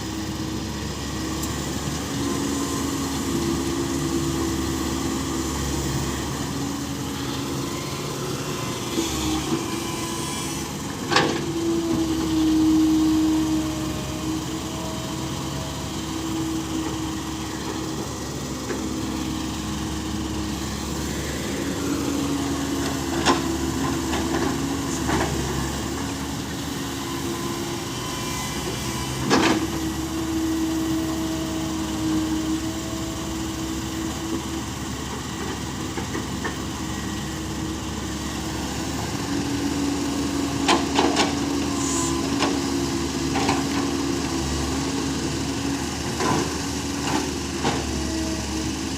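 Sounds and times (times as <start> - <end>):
truck engine droning: 0.0 - 48.9.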